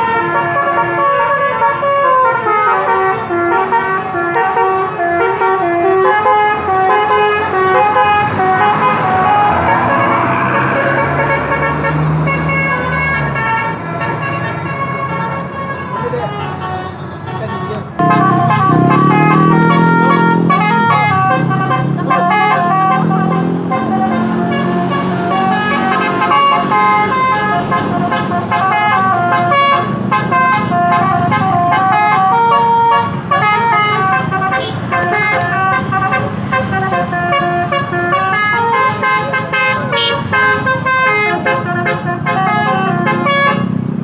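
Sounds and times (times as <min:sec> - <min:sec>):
multi-trumpet air horn melody: 0:00.0 - 0:43.8.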